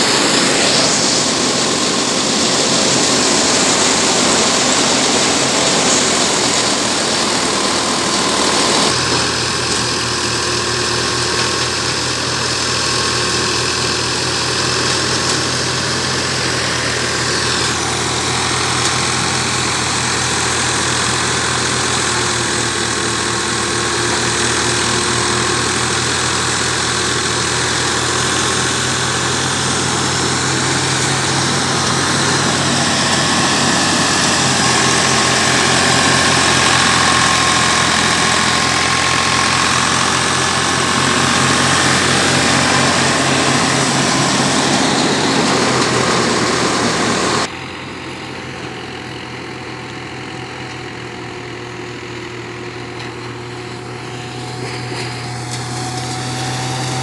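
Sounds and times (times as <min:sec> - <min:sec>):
thresher machine noise: 0:00.0 - 0:57.0
tractor diesel engine running: 0:00.0 - 0:57.0.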